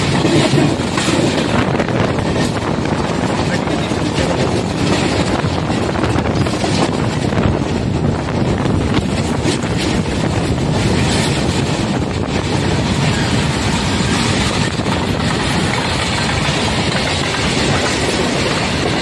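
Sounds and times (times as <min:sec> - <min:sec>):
rumble of train wheels on rails: 0:00.0 - 0:19.0
wind buffeting microphone: 0:00.0 - 0:19.0.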